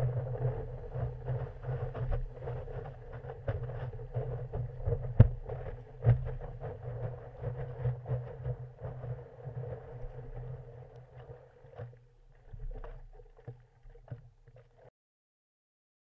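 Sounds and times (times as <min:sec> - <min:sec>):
paddle strokes splashing: 0:00.0 - 0:14.9
water splashing against paddleboard: 0:00.0 - 0:14.9.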